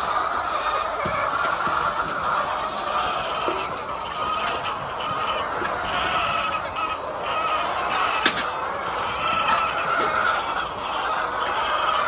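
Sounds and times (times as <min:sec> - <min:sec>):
hens clucking and calling: 0:00.0 - 0:12.0.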